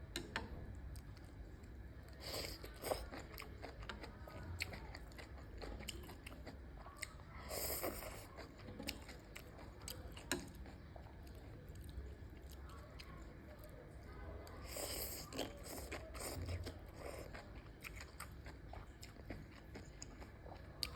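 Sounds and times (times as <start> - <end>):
mushrooms being chewed: 1.0 - 13.7, 14.5 - 20.9.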